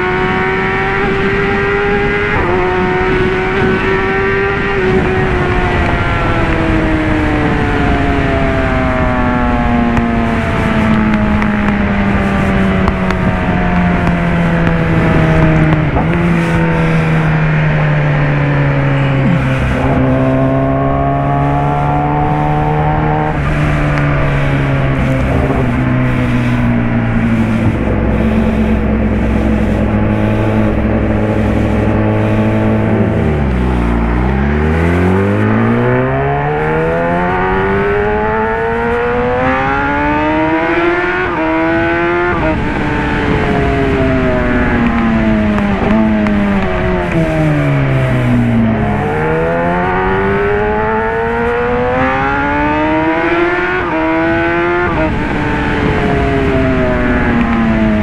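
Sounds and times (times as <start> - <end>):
motorcycle engine accelerating: 0.0 - 58.0
tyre and wind noise: 0.0 - 58.0.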